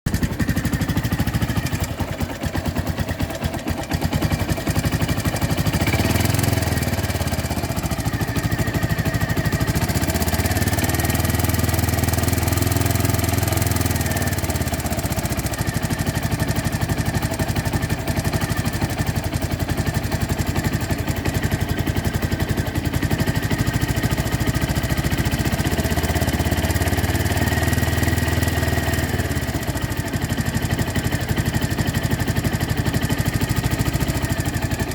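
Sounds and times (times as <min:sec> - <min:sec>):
engine idling with rapid ticking: 0:00.1 - 0:34.9.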